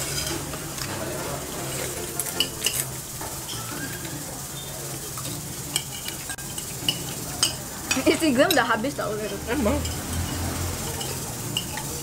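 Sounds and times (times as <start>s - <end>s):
cutlery clinking on plates: 0.0s - 1.0s, 1.7s - 4.2s, 5.2s - 12.0s.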